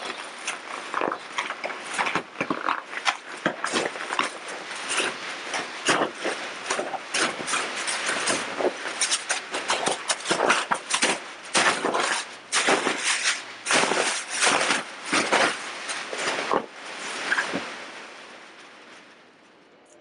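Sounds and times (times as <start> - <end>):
plastic bags crinkling and rustling: 0.0 - 19.2.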